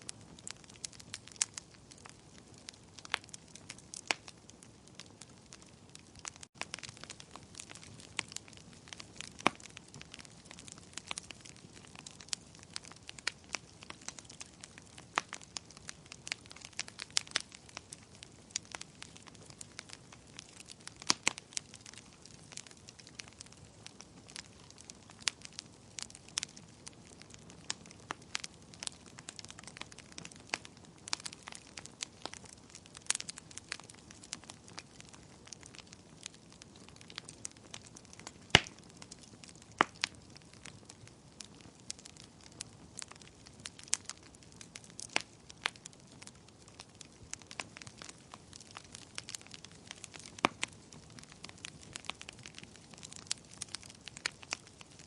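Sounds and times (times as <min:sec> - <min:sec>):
soft steady hiss: 0:00.0 - 0:55.0
wood fire crackling and popping: 0:00.0 - 0:55.0.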